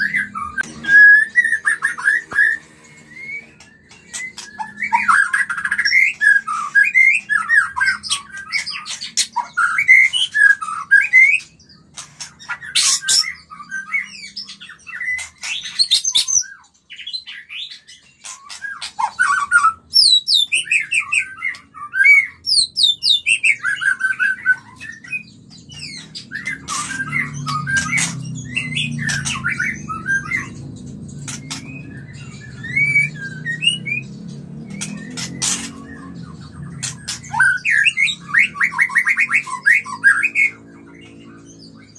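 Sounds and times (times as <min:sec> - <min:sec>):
bird singing whistles and chirps: 0:00.0 - 0:41.9.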